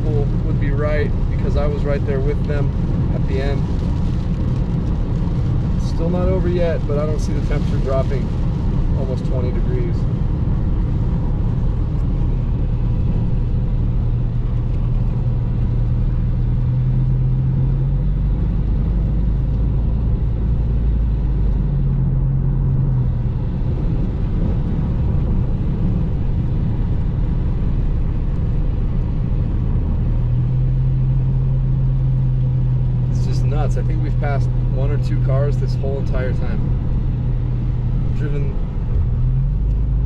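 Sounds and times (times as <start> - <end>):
car road noise drone: 0.0 - 40.0.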